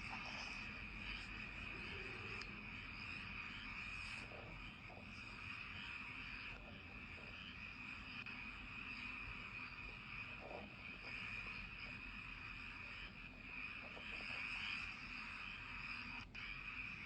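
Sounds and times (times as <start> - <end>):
frogs croaking: 0.0 - 17.0
insects trilling: 0.0 - 17.0.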